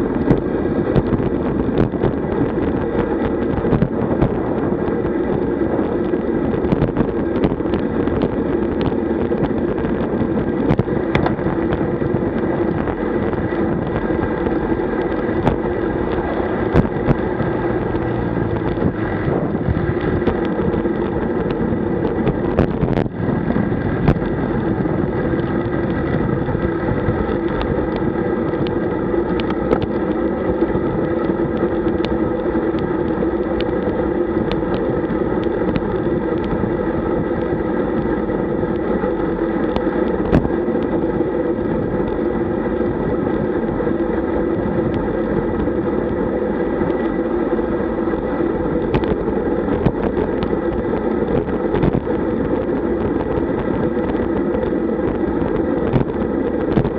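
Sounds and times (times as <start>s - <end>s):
bicycle road rumble: 0.0s - 56.9s
wind on microphone: 0.0s - 56.9s.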